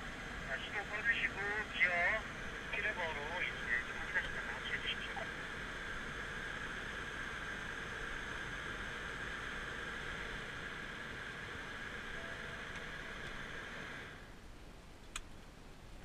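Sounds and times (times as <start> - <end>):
car cabin hiss and hum: 0.0 - 16.0.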